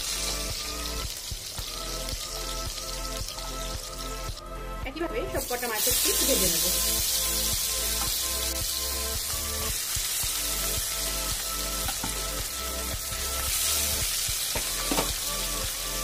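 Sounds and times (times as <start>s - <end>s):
fish sizzling in hot oil: 0.0s - 4.5s, 5.3s - 16.0s
background music: 0.0s - 16.0s.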